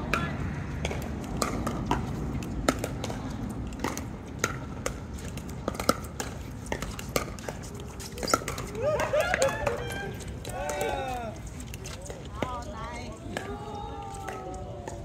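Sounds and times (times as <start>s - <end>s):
paddles hitting plastic ball: 0.0s - 12.5s.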